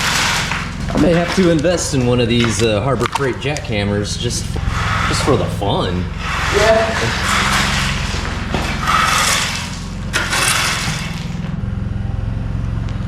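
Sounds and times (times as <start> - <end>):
rough scraping noise: 0.0 - 11.6
motor running: 0.0 - 13.0.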